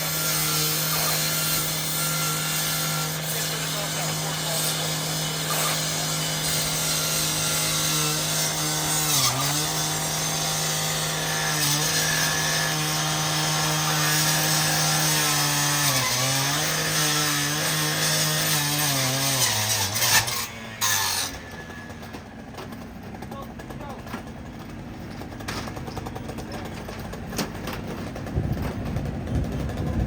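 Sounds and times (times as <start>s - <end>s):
gas-powered saw running: 0.0s - 30.0s.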